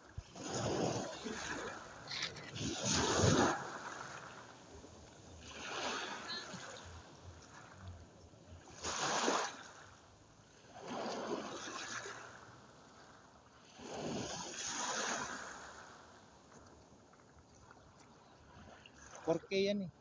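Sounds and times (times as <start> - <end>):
small waves breaking on shore: 0.0 - 20.0.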